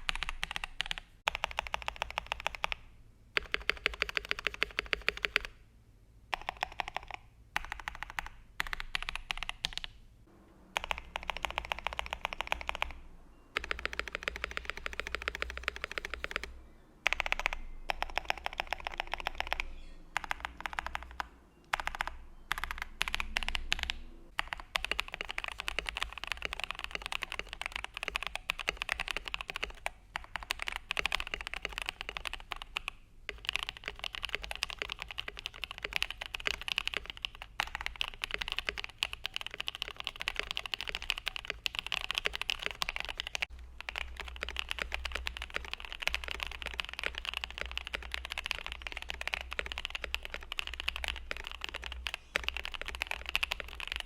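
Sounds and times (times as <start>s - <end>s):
typing on mechanical keyboard: 0.0s - 5.6s, 6.3s - 9.9s, 10.8s - 13.0s, 13.6s - 54.0s.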